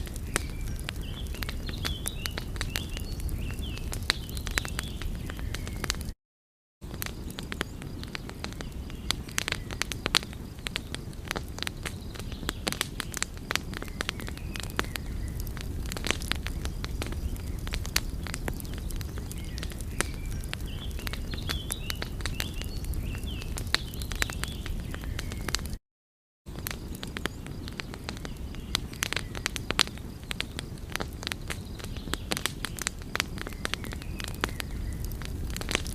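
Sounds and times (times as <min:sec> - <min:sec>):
wood fire crackling: 0:00.0 - 0:06.2, 0:06.8 - 0:25.8, 0:26.5 - 0:35.9.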